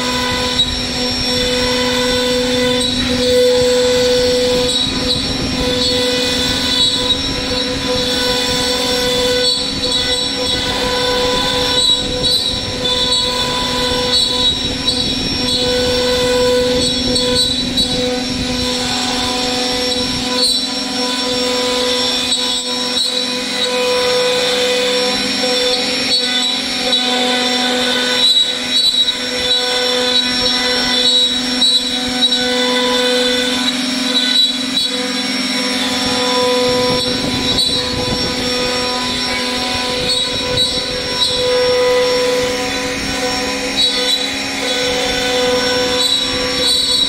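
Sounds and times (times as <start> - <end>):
bit cutting wood: 0.0 - 47.0
router spindle whine: 0.0 - 47.0.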